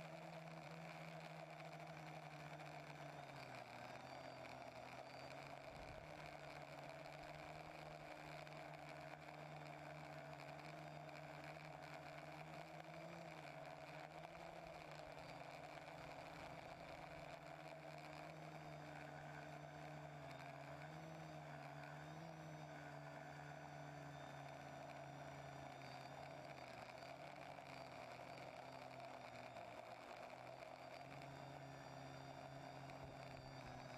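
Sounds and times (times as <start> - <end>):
quadcopter motors humming: 0.0 - 33.9.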